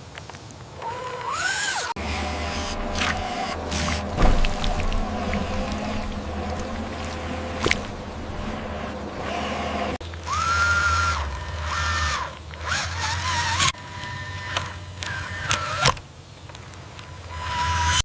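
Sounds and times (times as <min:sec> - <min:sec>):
small electric motors whining: 0:00.7 - 0:18.0.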